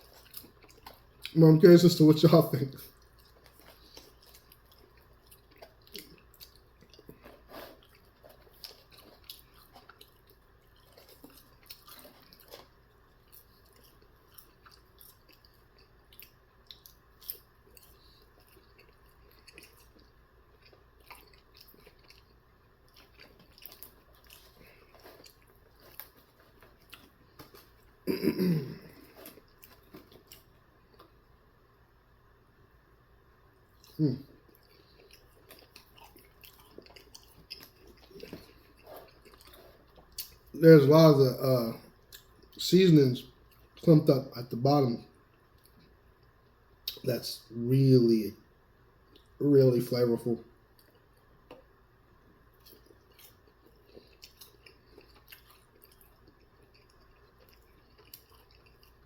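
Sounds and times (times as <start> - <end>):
person chewing food: 0.0 - 31.4, 33.7 - 40.6, 41.8 - 42.6, 43.2 - 43.8, 45.1 - 47.1, 49.0 - 49.4, 50.6 - 59.0.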